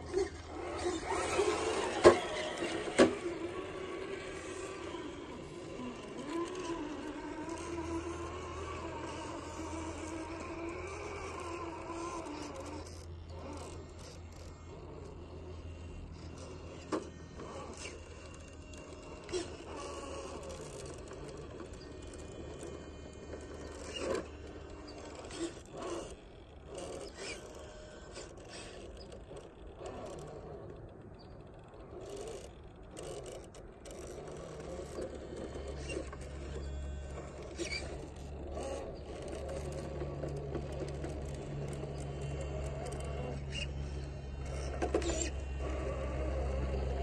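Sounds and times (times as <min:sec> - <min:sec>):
toy car motor running: 0:00.0 - 0:47.0.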